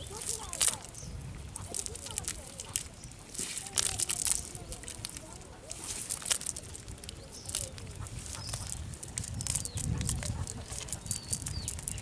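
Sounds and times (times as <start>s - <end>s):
cast net handling clicks and rustles: 0.0s - 12.0s.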